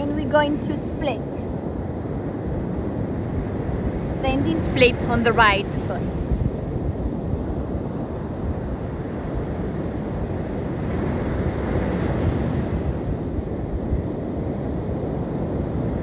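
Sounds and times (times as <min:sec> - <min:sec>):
surf washing onto a beach: 0:00.0 - 0:16.0
wind buffeting microphone: 0:00.0 - 0:16.0.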